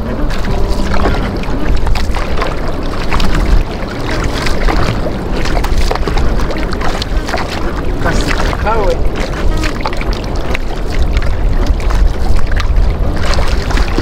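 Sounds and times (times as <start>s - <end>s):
paddle splashing in water: 0.0s - 14.0s
water rushing past hull: 0.0s - 14.0s.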